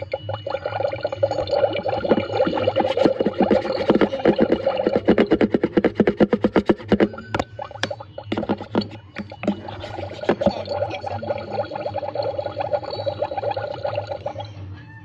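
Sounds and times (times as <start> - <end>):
dense electronic fluttering: 0.0 - 14.6
rapid even electronic pulsing: 0.0 - 14.6
steady low hum: 0.0 - 15.0.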